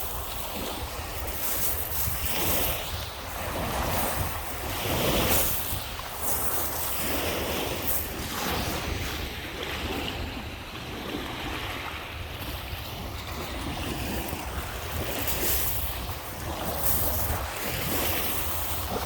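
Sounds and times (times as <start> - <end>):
waves washing onto shore: 0.0 - 19.0
wind rumbling on microphone: 0.0 - 19.0.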